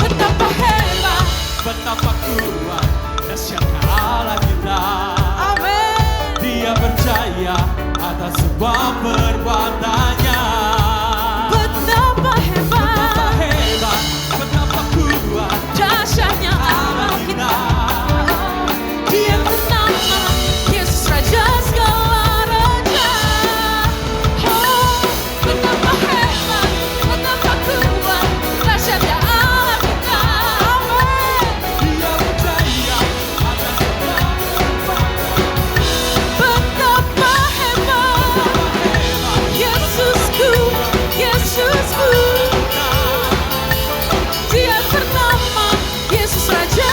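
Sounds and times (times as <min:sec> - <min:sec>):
drum kit playing a beat: 0:00.0 - 0:46.9
lead singer singing: 0:00.0 - 0:46.9.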